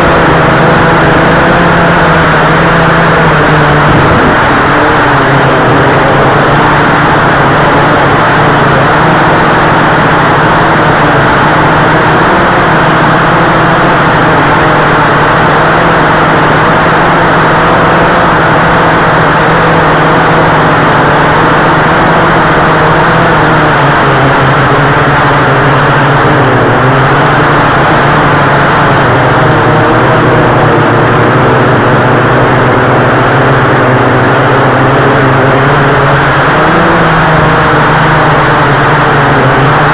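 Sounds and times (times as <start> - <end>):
quadcopter motors and propellers: 0.0 - 39.9.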